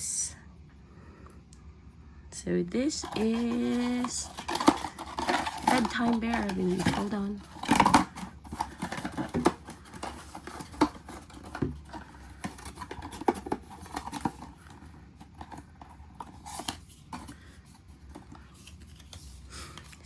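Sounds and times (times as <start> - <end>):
hands handling plastic figure: 2.9 - 20.0.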